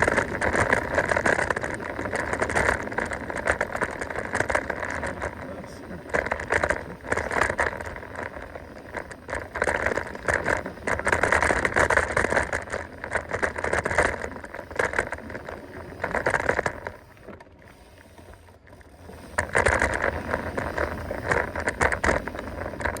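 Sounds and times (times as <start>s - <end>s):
bike parts rattling: 0.0s - 23.0s
bike tyres on dirt trail: 0.0s - 23.0s.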